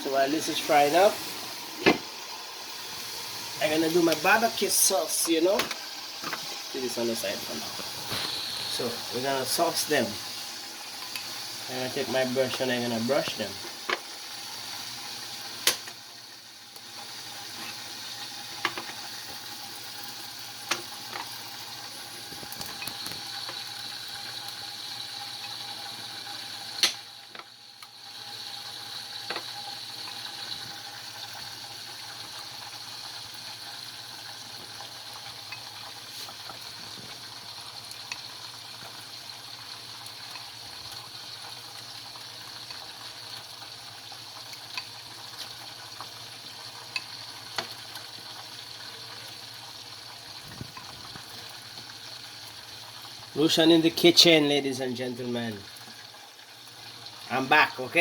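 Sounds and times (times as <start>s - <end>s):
oil bubbling and sizzling: 0.0s - 58.0s.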